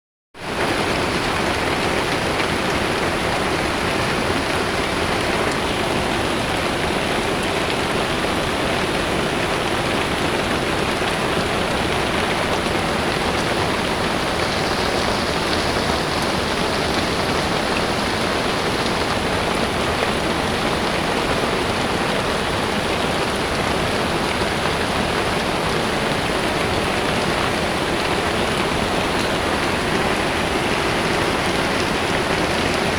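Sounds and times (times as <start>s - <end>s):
heavy rain pouring: 0.4s - 32.9s.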